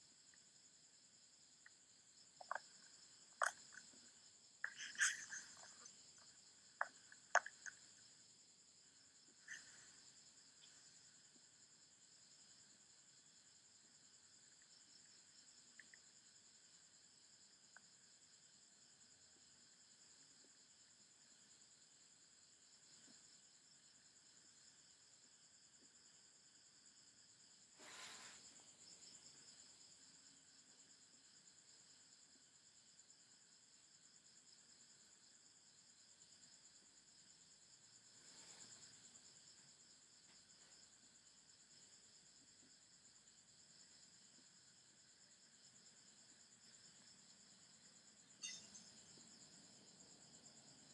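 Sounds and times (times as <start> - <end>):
crickets chirring: 0.0 - 50.9.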